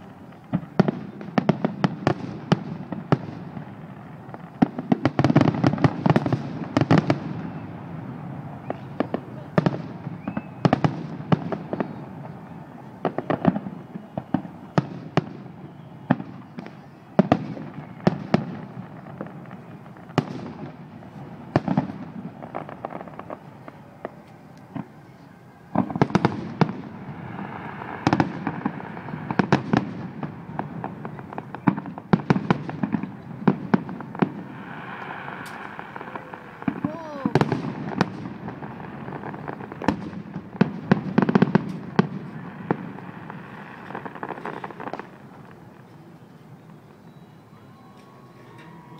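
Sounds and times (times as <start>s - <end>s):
fireworks bangs with crackling: 0.0s - 48.9s.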